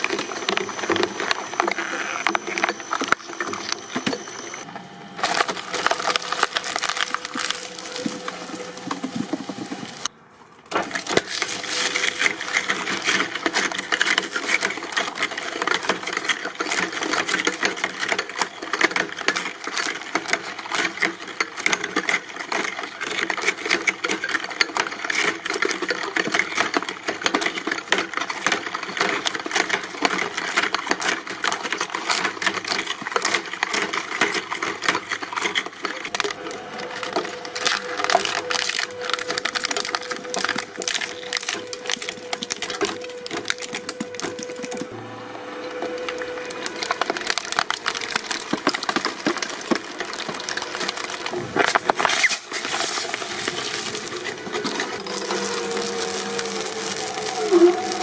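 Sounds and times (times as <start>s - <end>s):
shredding machine crunching material: 0.0s - 58.0s.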